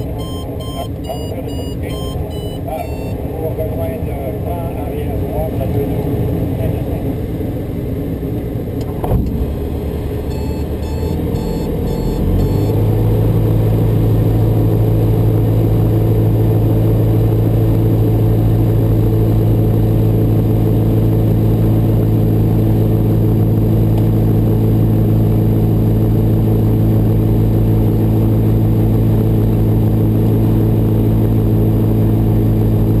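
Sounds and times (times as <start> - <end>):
light aircraft engine running: 0.0 - 33.0.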